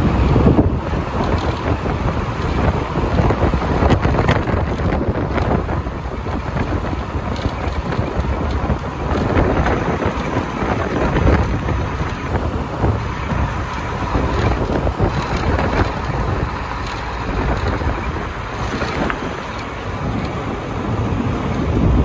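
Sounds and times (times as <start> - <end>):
car tyres rumbling on rough road: 0.0 - 22.0
wind buffeting microphone: 0.0 - 22.0.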